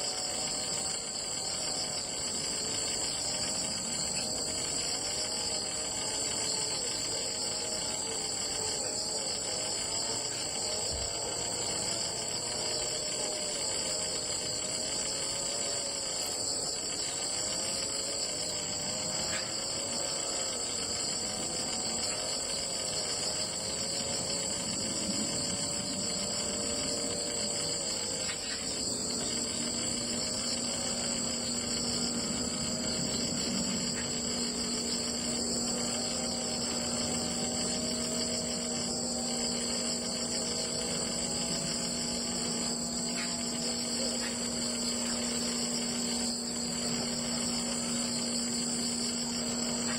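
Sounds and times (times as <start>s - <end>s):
insects trilling: 0.0s - 49.9s
low steady hum: 0.0s - 49.9s.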